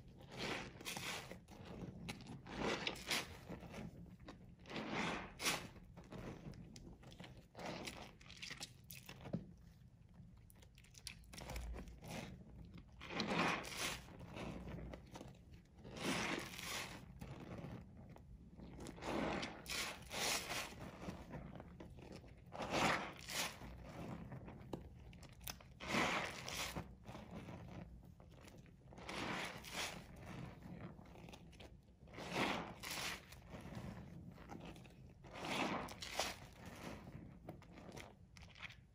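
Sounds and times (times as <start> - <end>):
wet soap crunching in hands: 0.0 - 38.9.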